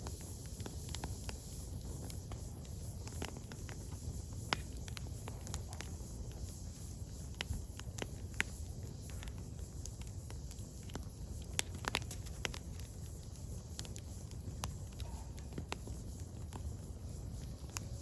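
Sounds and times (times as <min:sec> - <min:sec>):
firewood crackling and popping: 0:00.0 - 0:18.0
low rumble of flames: 0:00.0 - 0:18.0.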